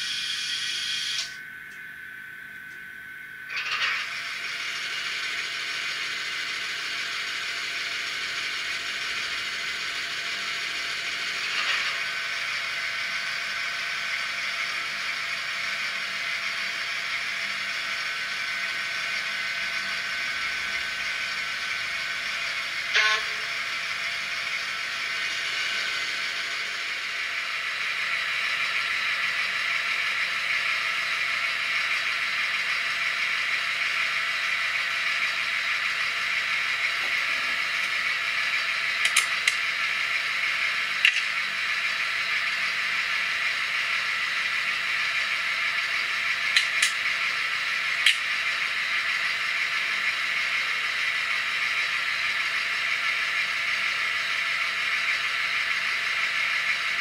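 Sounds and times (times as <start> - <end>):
diesel engine from small speaker: 3.5 - 57.0.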